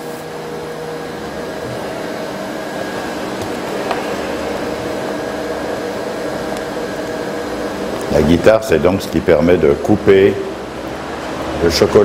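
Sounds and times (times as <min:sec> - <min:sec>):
motor or fan whirring: 0:00.0 - 0:12.0.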